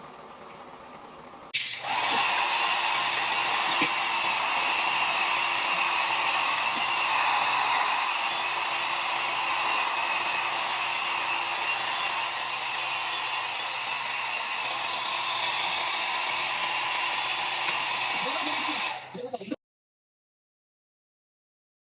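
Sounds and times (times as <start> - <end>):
motor whirring and hissing: 0.0 - 19.1.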